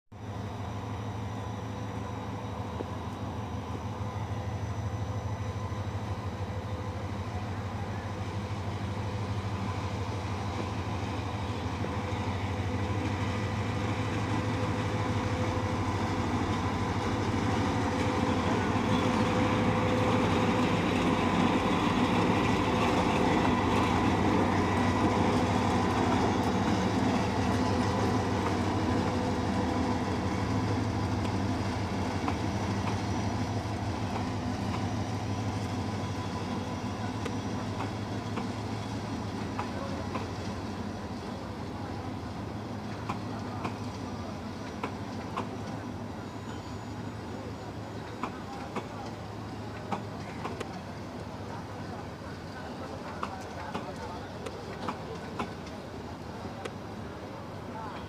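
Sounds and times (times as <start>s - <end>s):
diesel locomotive engine droning: 0.1s - 58.0s.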